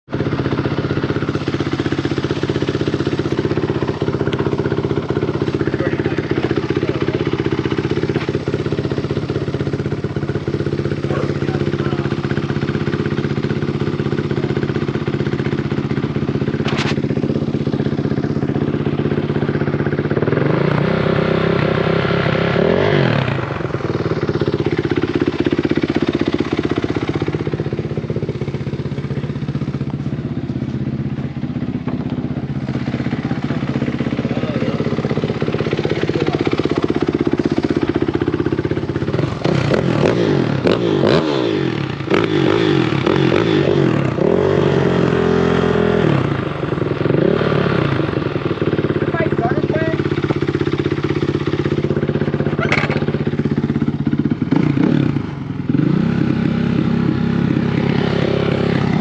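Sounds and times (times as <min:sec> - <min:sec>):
off-road engines running: 0:00.0 - 0:59.0.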